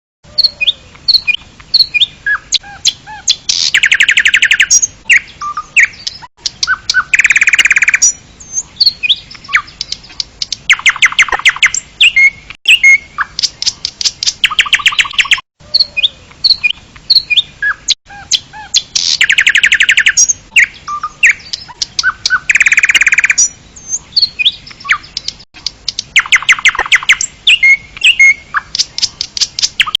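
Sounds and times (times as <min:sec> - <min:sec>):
songbirds chirping and trilling: 0:00.3 - 0:30.0.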